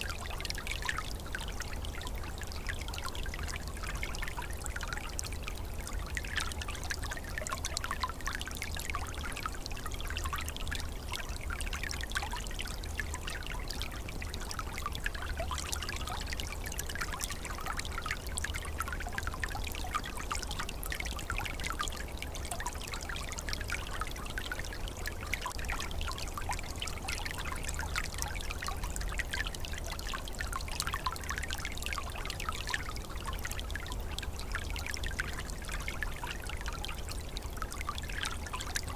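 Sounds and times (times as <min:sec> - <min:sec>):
stream trickling and burbling: 0:00.0 - 0:38.9.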